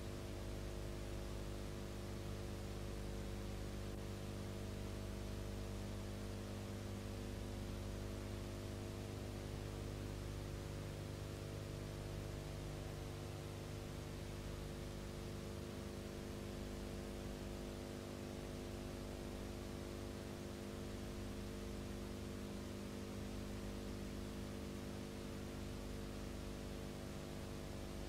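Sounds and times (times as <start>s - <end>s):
electrical mains hum with hiss: 0.0s - 28.0s.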